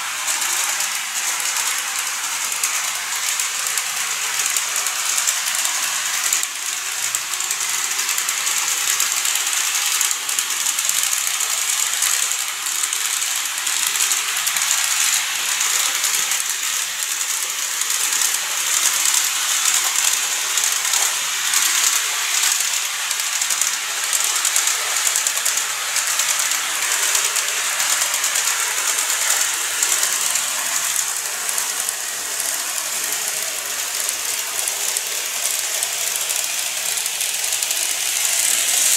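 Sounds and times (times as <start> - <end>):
model train whirring rattle: 0.0 - 38.9.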